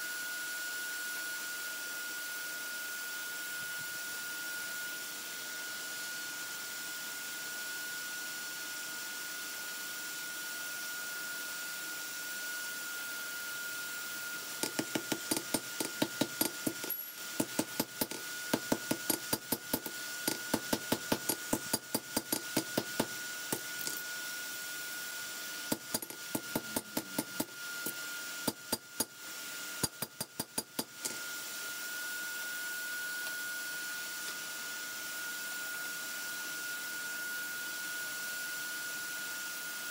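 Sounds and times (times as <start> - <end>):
faint steady whine: 0.0 - 39.9.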